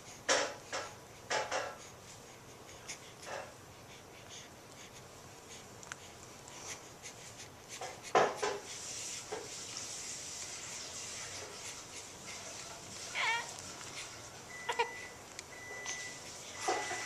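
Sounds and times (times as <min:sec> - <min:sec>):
rubbing and rustling handling noises: 0:00.0 - 0:17.0.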